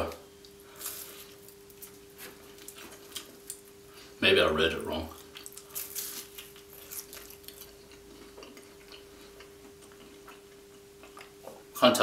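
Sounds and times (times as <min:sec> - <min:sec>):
chewing flaky pastry: 0:00.4 - 0:04.2, 0:04.8 - 0:11.7.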